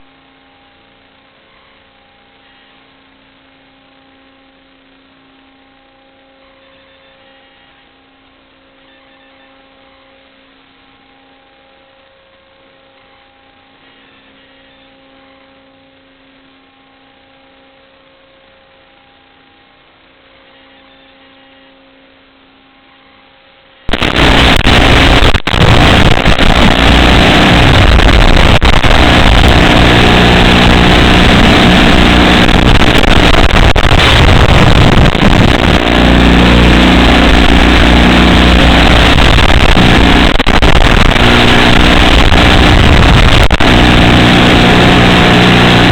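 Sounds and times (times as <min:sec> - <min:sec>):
drone motor and propeller noise: 0:00.0 - 0:45.9
faint electrical hum: 0:00.0 - 0:45.9.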